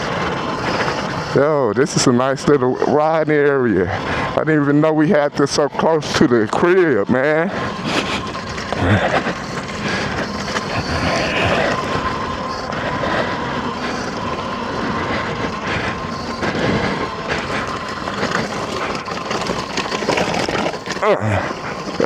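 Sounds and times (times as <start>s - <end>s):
dirt bike engine running: 0.0s - 22.0s
wind and road noise: 0.0s - 22.0s.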